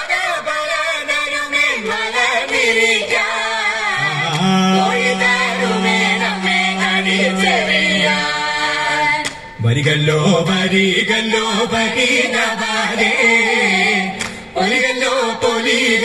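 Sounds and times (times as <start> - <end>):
group singing without instruments: 0.0 - 16.0.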